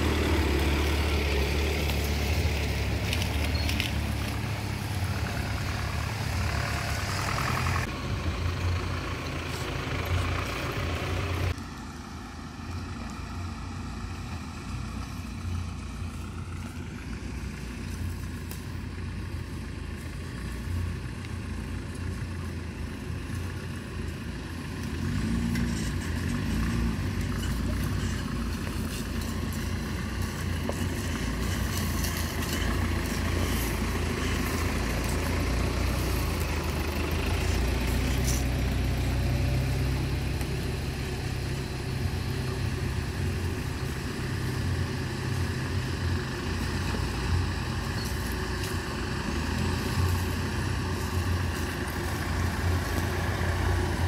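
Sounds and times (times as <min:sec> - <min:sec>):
vehicle passing close by: 0:00.0 - 0:18.5, 0:23.0 - 0:54.0
off-road vehicle engines running: 0:00.0 - 0:54.0.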